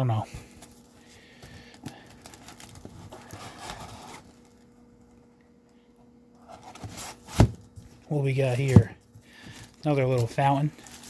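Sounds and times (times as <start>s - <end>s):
faint steady hum: 0.0s - 11.0s
cardboard packaging rustling: 0.4s - 4.8s, 6.4s - 11.0s.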